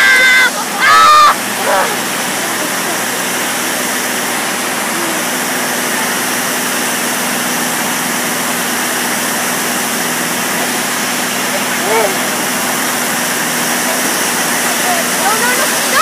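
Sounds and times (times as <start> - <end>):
small plane engine drone: 0.0 - 16.0.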